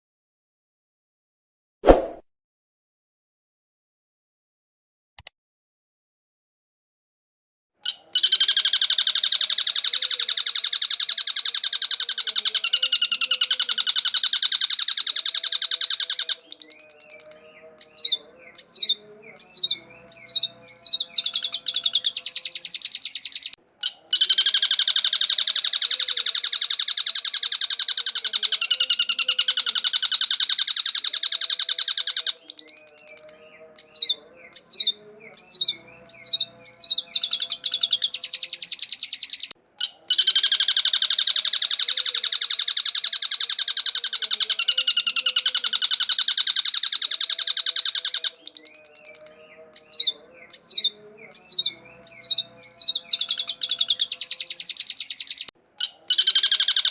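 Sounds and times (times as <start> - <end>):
bird harsh chattering song: 7.8 - 56.9.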